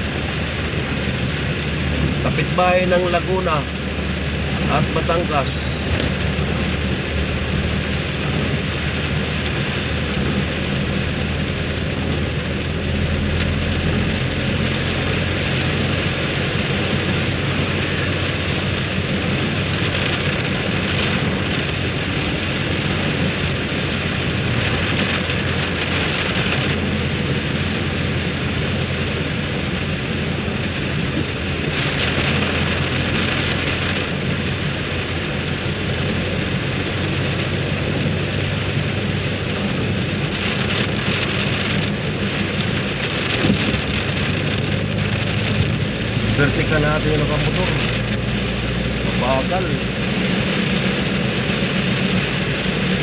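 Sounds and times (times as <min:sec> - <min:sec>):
engine and road hum: 0:00.0 - 0:53.0
heavy rain on car roof: 0:00.0 - 0:53.0.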